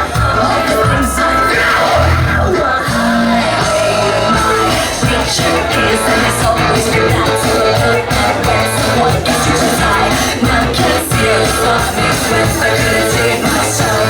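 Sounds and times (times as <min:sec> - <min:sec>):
person singing and shouting: 0:00.0 - 0:14.0
rock band playing live: 0:00.0 - 0:14.0.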